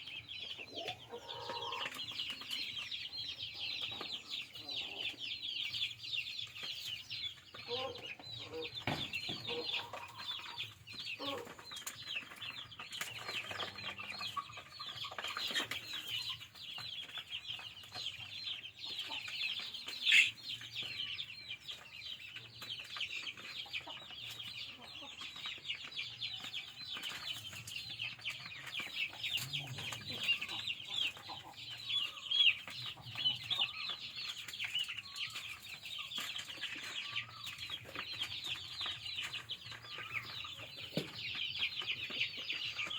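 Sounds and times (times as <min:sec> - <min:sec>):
chickens calling: 0:00.0 - 0:42.9.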